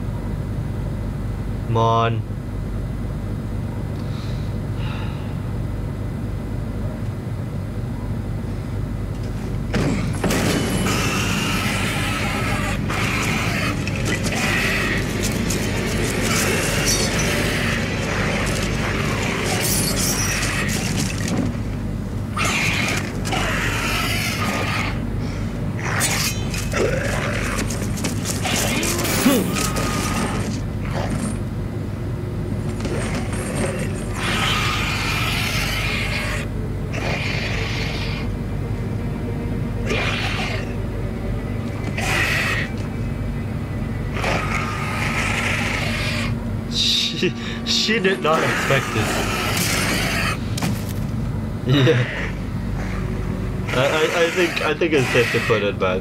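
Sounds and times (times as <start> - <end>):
low drone: 7.3 - 56.0.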